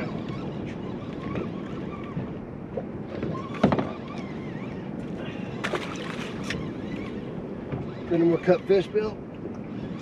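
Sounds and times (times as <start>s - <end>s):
small boat on water: 0.0s - 10.0s.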